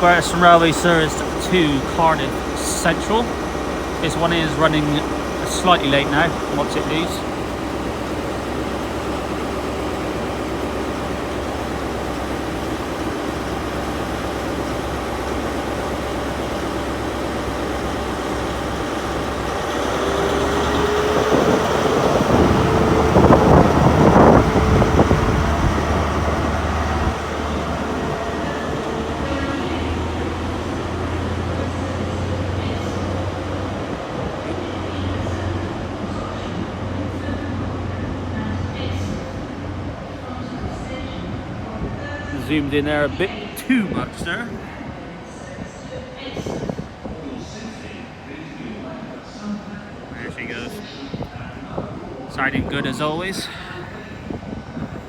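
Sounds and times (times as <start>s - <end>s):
steady whine: 0.0s - 45.6s
diesel engine drone: 0.0s - 55.0s.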